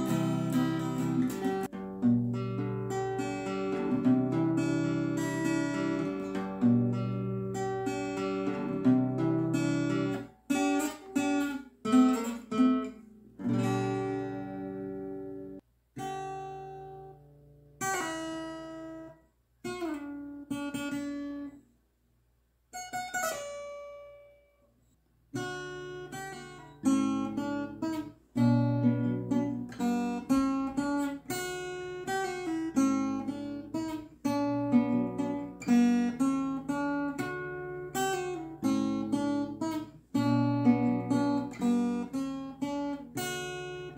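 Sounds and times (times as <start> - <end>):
acoustic guitar chords: 0.0 - 21.6, 25.3 - 43.9.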